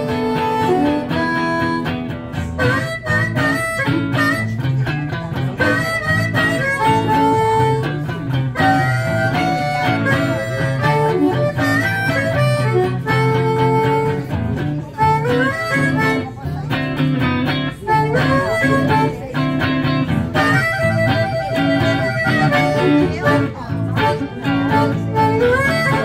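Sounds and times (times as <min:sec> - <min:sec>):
electric guitar bending notes: 0:00.0 - 0:26.0.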